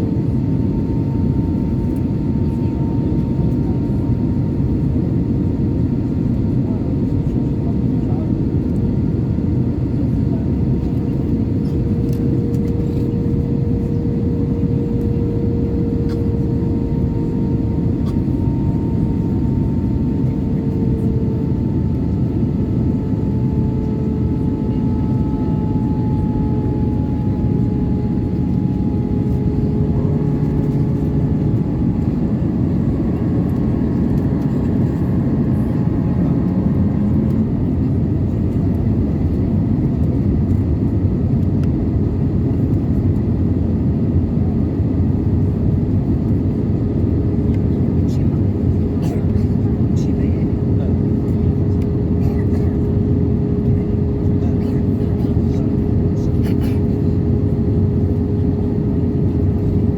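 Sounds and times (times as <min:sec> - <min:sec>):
airplane cabin airflow and engine hum: 0:00.0 - 0:59.9.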